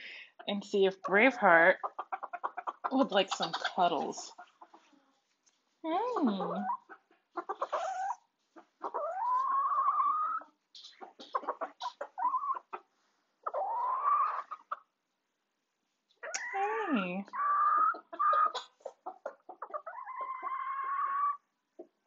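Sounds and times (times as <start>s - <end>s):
chickens calling: 0.0s - 5.2s, 6.2s - 14.9s, 17.3s - 21.9s
chickens clucking: 0.0s - 15.0s, 17.3s - 22.0s.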